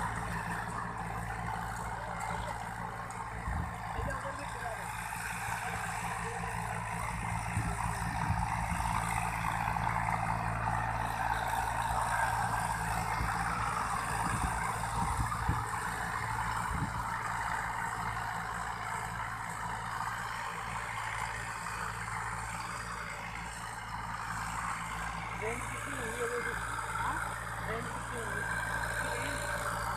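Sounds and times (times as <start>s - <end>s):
distant tractor engine running: 0.0s - 29.9s.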